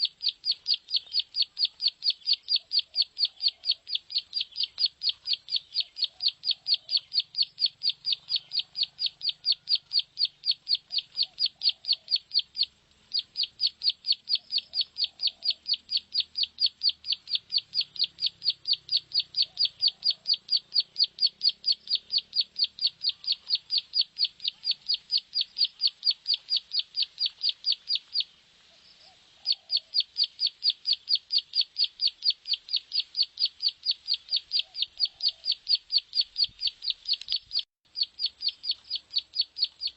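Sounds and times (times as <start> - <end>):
bird song of high sharp notes: 0.0 - 39.9
faint lower bird calls: 0.0 - 39.9.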